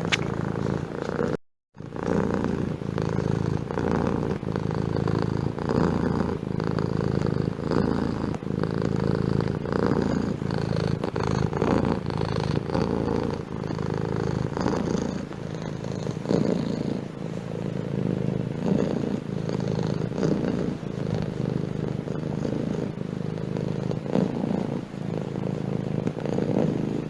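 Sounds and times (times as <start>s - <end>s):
cat purring: 0.0s - 27.0s.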